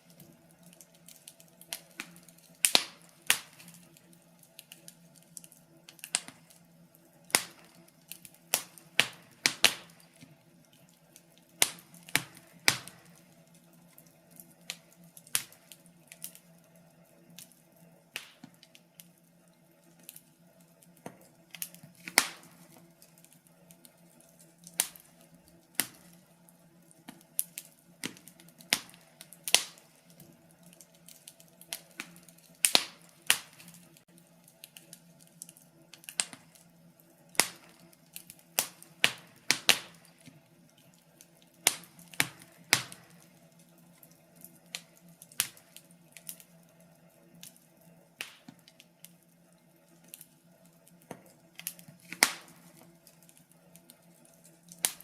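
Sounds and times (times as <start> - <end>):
wood fire popping and snapping: 0.0 - 55.0.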